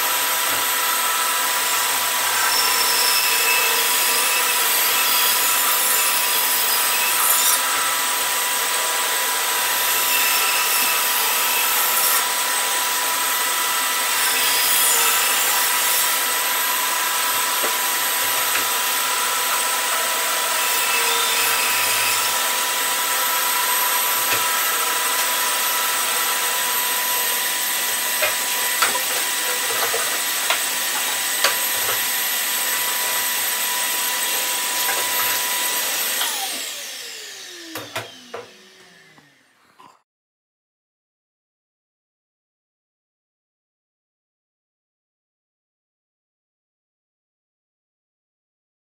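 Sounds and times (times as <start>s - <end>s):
bandsaw cutting wood: 0.0s - 39.7s.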